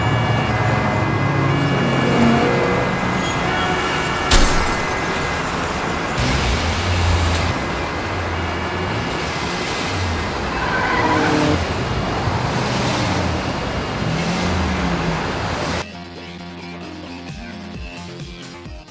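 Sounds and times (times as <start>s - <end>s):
car engines surging: 0.0s - 15.8s
road and traffic noise: 0.0s - 15.9s.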